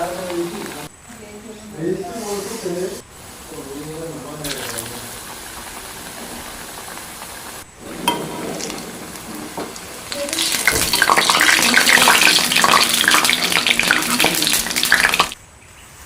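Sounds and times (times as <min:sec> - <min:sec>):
deep-frying in hot oil: 0:00.0 - 0:15.9.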